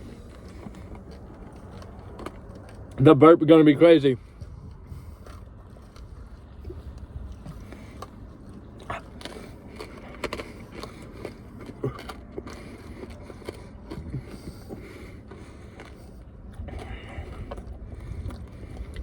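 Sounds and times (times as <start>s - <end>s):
chewing candy crunches: 0.0s - 19.0s
low steady rumble: 0.0s - 19.0s.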